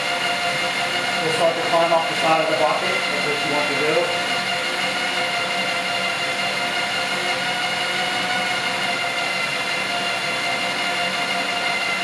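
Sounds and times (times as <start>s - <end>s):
tumbler motor hum and whine: 0.0s - 12.0s.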